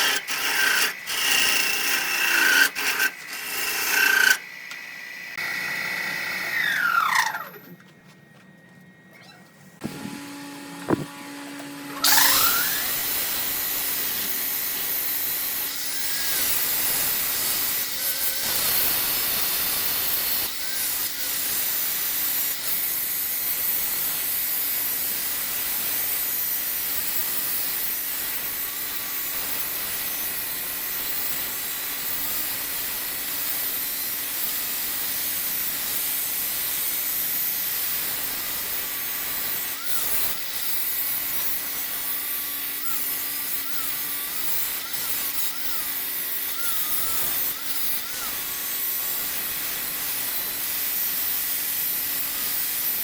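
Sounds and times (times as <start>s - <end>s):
wood lathe rasping hiss: 0.0s - 7.6s, 11.9s - 23.4s, 26.1s - 53.0s.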